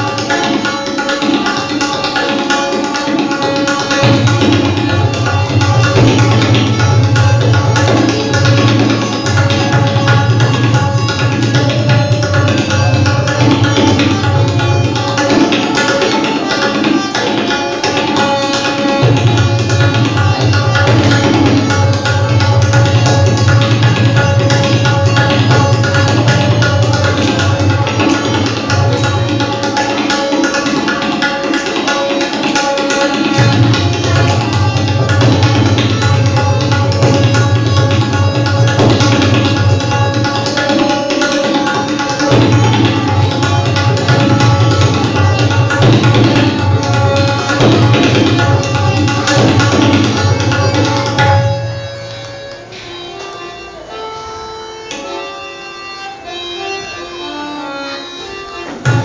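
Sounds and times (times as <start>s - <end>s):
tabla strokes: 0.0s - 53.0s, 58.6s - 59.0s
harmonium melody: 0.0s - 59.0s.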